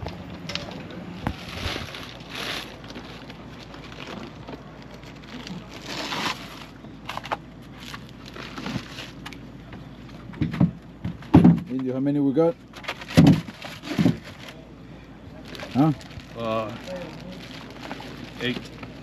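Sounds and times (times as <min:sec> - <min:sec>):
rustling and scraping: 0:00.0 - 0:12.0, 0:12.6 - 0:14.7, 0:15.3 - 0:19.0.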